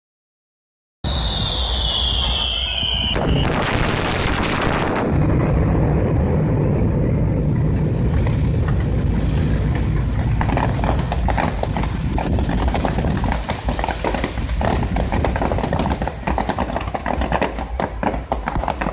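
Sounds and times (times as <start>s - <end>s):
firework whistling: 1.0s - 18.9s
firework burst crackling hiss: 1.1s - 18.9s
low rumble of explosions: 1.1s - 18.9s
dense rapid crackling: 2.5s - 18.9s.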